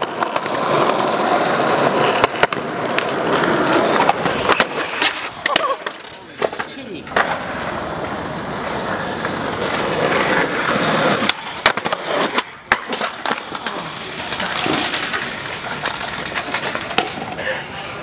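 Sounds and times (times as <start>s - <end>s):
skateboard slamming down: 0.0s - 17.4s
skateboard scraping: 0.0s - 18.0s
skateboard wheels rolling on concrete: 0.0s - 18.0s.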